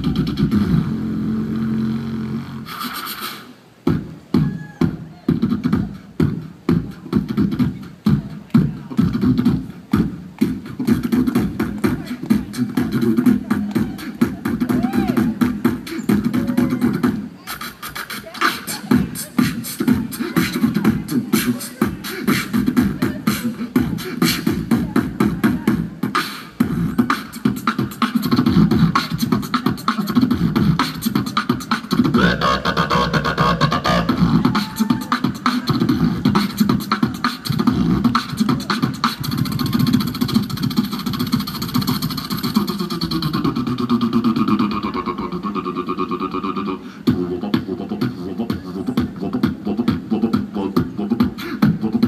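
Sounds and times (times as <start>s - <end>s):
held pitched vocal tone: 0.0s - 52.0s
man beatboxing: 0.0s - 52.0s.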